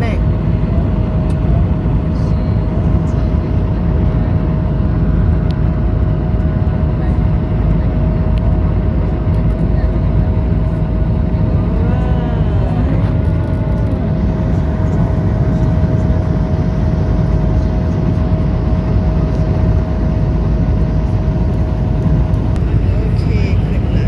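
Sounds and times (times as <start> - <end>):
jet airliner cabin noise: 0.0 - 24.0.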